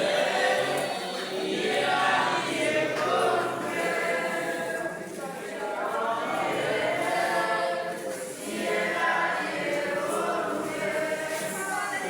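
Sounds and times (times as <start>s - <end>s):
crowd singing: 0.0s - 12.0s.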